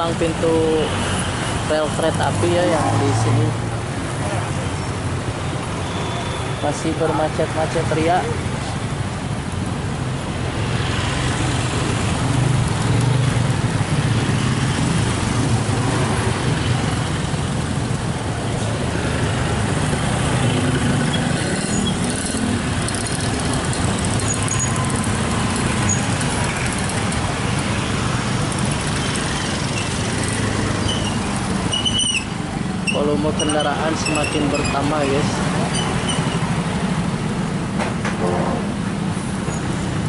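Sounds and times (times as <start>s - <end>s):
traffic engines humming: 0.0s - 40.0s.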